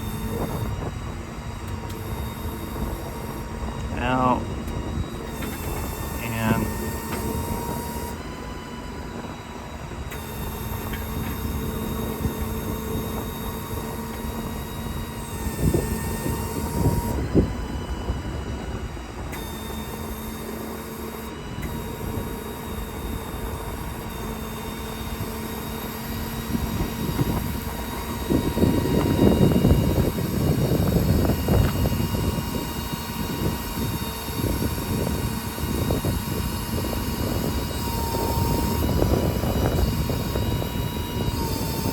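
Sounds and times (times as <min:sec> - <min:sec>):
diesel engine rumble: 0:00.0 - 0:41.9
hydraulic pump whine: 0:00.0 - 0:41.9.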